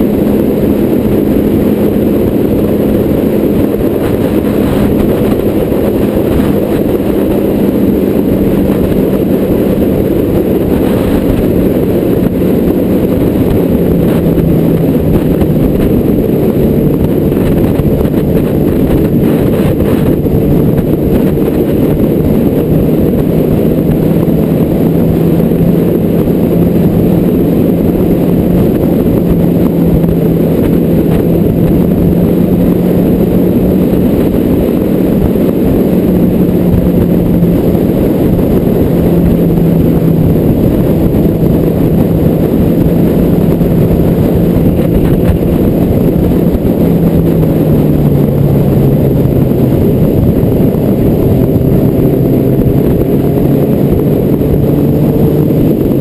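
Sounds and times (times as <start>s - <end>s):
engine drone: 0.0s - 56.0s
low road noise rumble: 0.0s - 56.0s.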